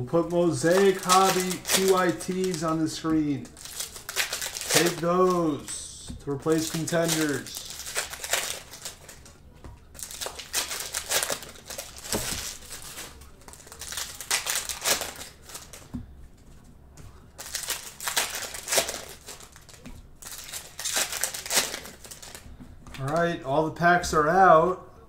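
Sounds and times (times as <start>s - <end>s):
card packs crinkling: 0.4s - 15.9s, 17.3s - 23.4s.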